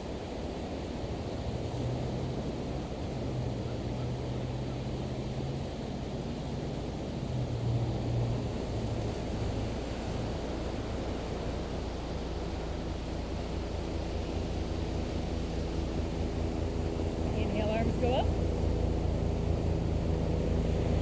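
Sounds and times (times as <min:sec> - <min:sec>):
wind: 0:00.0 - 0:21.0
low engine drone: 0:01.3 - 0:21.0.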